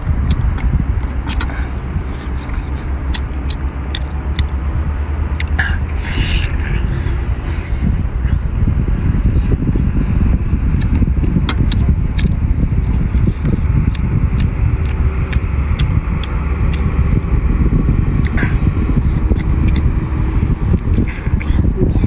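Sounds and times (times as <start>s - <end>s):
heavy low rumble: 0.0s - 22.0s
chewing with mouth clicks: 0.2s - 4.6s, 5.3s - 17.3s, 18.2s - 22.0s.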